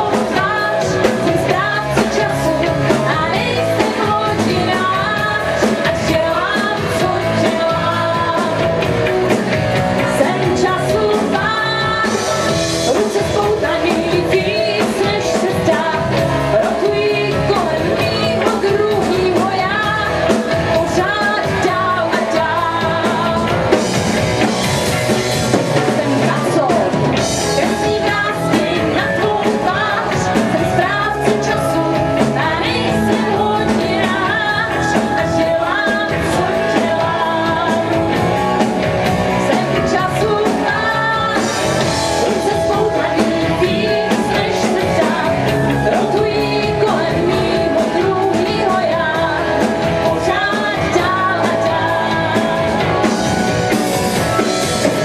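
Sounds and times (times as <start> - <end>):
bass guitar: 0.0 - 55.0
drum kit: 0.0 - 55.0
electric guitar: 0.0 - 55.0
woman singing lead: 0.0 - 55.0.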